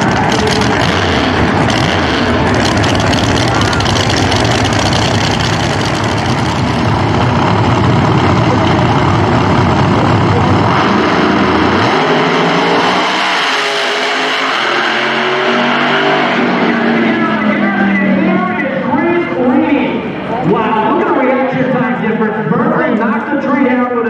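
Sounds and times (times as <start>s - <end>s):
drag car engines revving: 0.0s - 24.0s.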